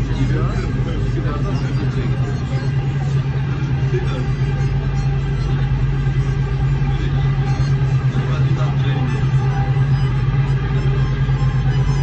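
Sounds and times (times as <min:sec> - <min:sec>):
low hum: 0:00.0 - 0:12.0
metro train rumbling: 0:00.0 - 0:12.0.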